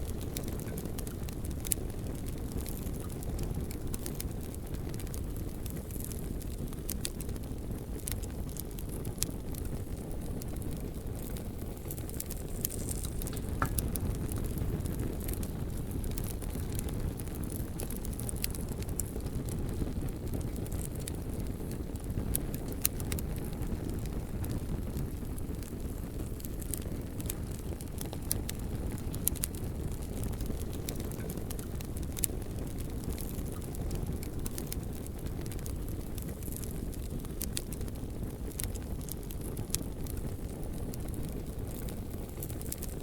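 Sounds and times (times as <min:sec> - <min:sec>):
bonfire flames rumbling: 0:00.0 - 0:43.0
burning wood crackling and popping: 0:00.0 - 0:43.0.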